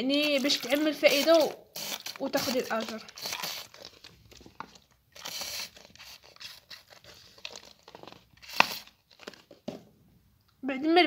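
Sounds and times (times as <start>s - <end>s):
plastic bottle crinkling: 0.0s - 9.9s.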